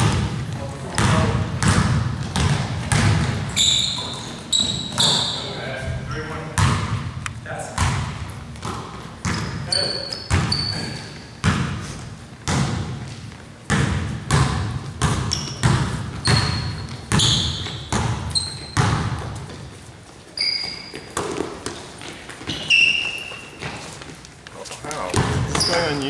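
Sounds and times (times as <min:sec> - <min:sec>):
basketball bouncing on gym floor: 0:00.0 - 0:19.7, 0:20.4 - 0:24.1, 0:25.0 - 0:26.0
sneaker squeaks: 0:01.0 - 0:06.9, 0:07.8 - 0:14.4, 0:15.0 - 0:24.2, 0:25.1 - 0:26.0.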